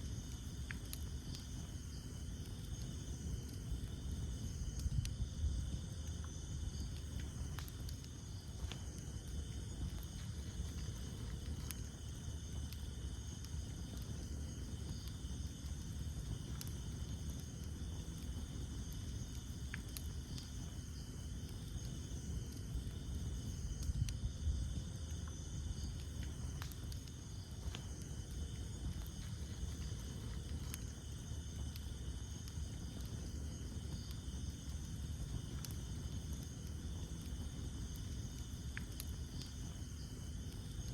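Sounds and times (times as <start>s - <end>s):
campfire crackling and popping: 0.0s - 40.9s
night insects chirping: 0.0s - 40.9s.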